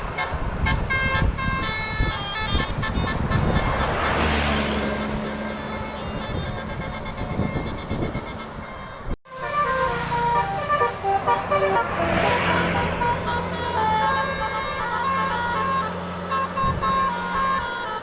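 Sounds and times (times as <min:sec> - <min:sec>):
bus horn playing a tune: 0:00.0 - 0:18.0
passing traffic: 0:00.0 - 0:18.0.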